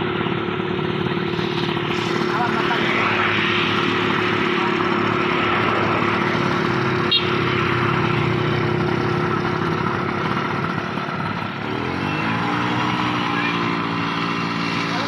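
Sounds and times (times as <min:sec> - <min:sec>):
light aircraft engine running: 0:00.0 - 0:15.0.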